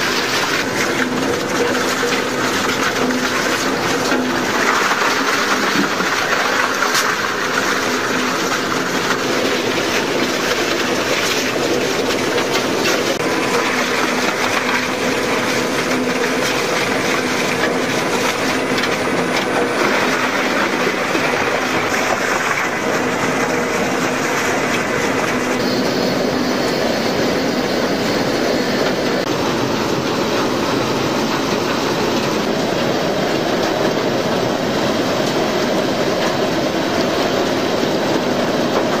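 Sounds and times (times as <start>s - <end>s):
crushing machine clatter: 0.0s - 27.6s, 28.8s - 39.0s.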